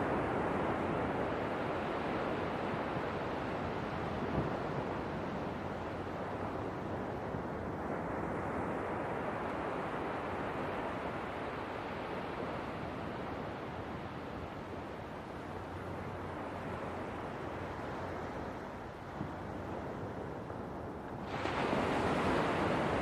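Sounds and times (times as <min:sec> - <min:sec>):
ocean waves washing on shore: 0:00.0 - 0:23.0.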